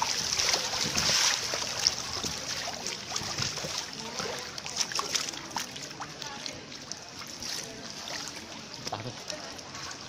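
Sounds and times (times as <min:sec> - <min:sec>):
pool water splashing and sloshing: 0:00.0 - 0:10.0.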